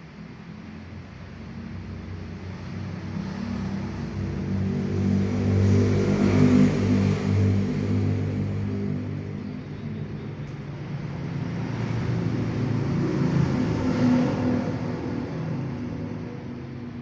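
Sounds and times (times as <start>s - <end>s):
vehicle engine passing by: 1.7s - 17.0s.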